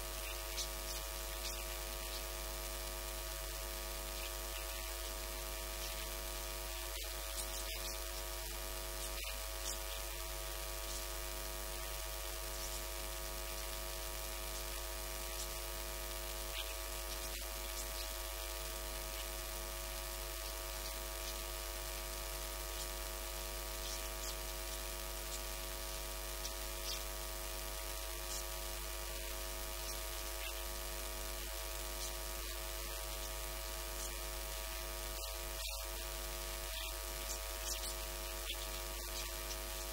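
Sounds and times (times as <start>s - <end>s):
electrical mains hum: 0.0s - 39.9s
recording hiss: 0.0s - 39.9s.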